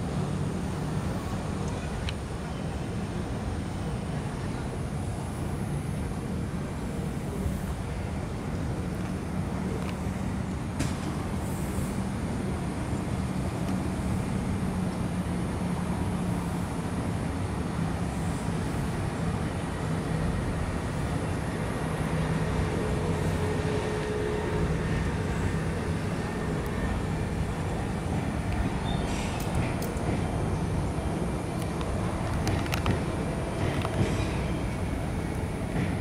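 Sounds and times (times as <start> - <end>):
electric train rumbling: 0.0 - 36.0.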